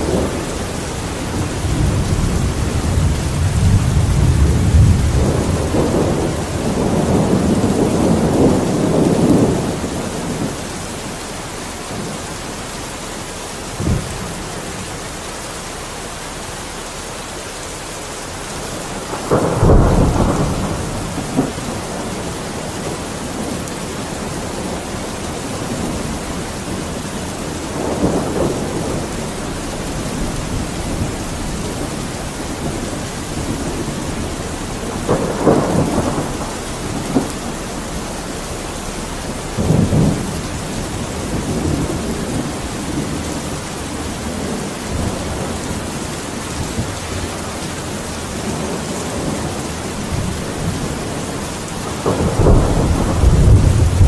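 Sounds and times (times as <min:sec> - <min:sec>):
thunder rumbling and cracking: 0:00.0 - 0:15.3, 0:18.2 - 0:54.0
steady rain: 0:00.0 - 0:54.0.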